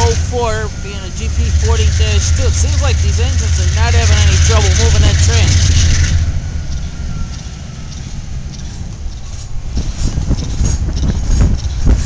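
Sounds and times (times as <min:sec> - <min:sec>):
train rumbling past: 0:00.0 - 0:12.0
train wheels clicking and clanking: 0:00.0 - 0:12.0.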